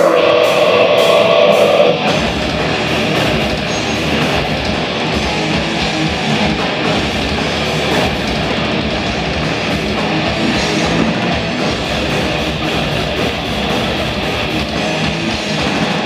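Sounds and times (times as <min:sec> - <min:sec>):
live metal band playing: 0:00.0 - 0:16.0.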